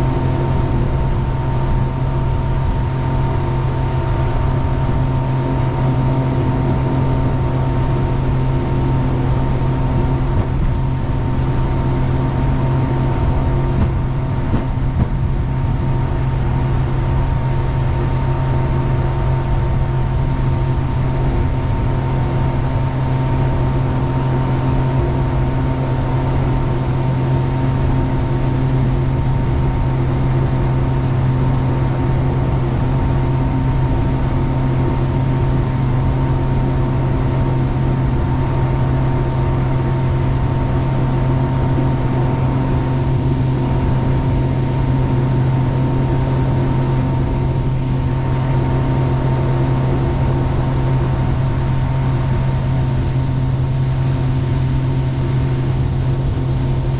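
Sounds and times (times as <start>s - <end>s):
boat engine drone: 0.0s - 56.9s.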